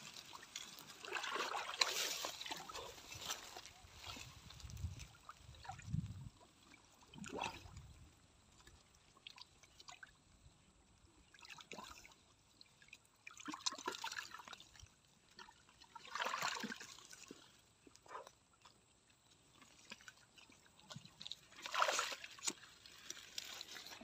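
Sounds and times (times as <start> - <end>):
water sloshing and splashing: 0.0 - 10.4, 11.2 - 24.0.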